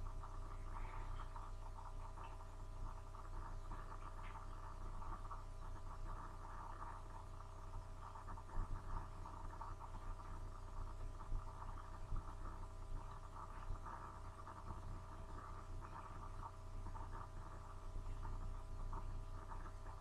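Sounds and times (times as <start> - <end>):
faint flickering crackle: 0.0 - 20.0
low electrical hum: 0.0 - 20.0.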